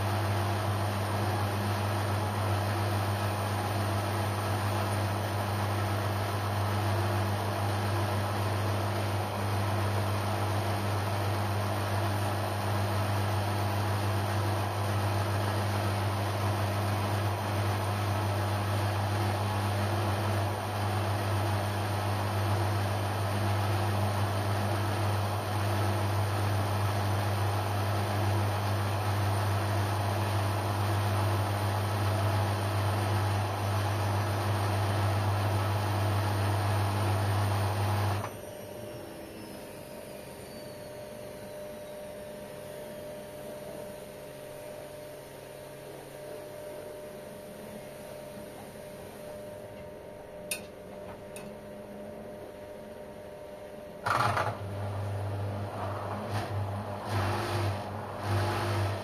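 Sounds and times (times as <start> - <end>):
washing machine humming: 0.0 - 59.0.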